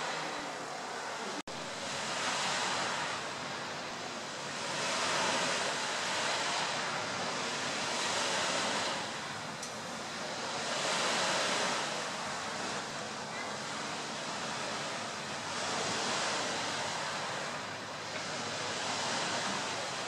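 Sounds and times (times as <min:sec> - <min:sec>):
sea waves washing: 0:00.0 - 0:20.0.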